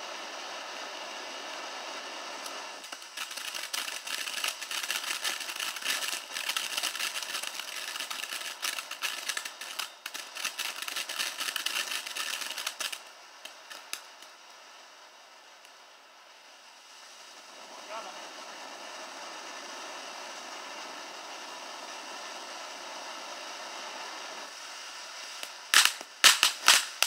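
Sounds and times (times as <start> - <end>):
firework hissing and crackling: 0.0 - 27.0.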